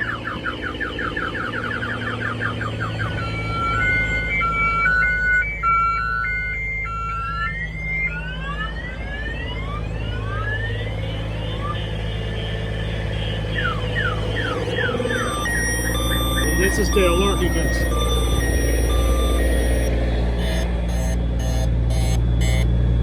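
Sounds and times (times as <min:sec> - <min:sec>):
vehicle alarm siren: 0:00.0 - 0:23.0.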